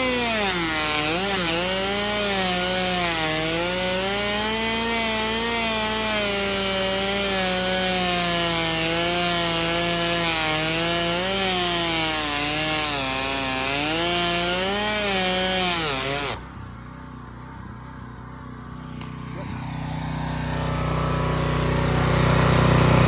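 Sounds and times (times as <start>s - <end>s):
bicycle wheel buzzing whine: 0.0s - 23.0s.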